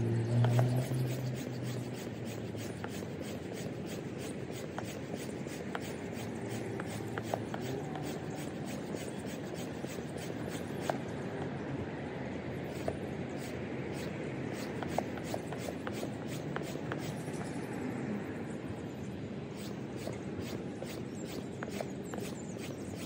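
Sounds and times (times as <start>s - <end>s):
hand pump strokes with air hiss: 0.3s - 11.2s, 12.6s - 17.4s, 19.5s - 23.0s.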